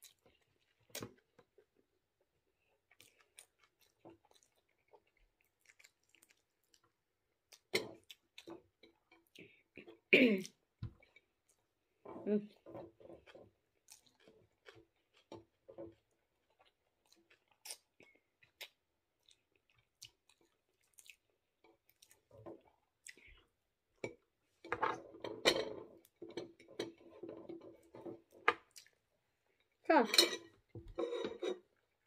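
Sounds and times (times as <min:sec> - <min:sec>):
person chewing food: 0:00.0 - 0:24.7, 0:25.8 - 0:29.8.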